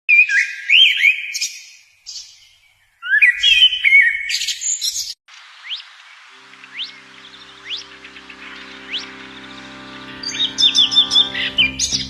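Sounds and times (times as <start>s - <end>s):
songbird warbling: 2.1s - 12.0s.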